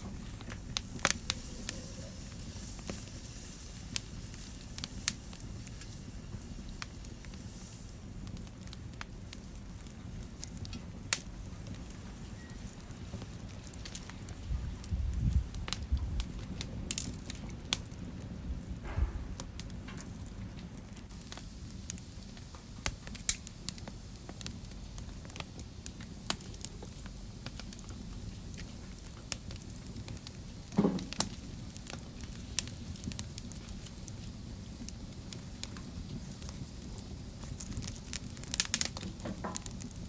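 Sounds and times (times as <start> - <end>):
fire crackling in a fireplace: 0.0 - 40.0.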